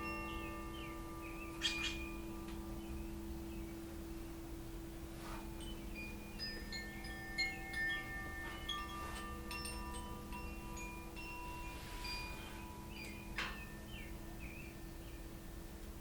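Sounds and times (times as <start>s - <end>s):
chimes ringing: 0.0s - 4.9s, 5.5s - 14.9s.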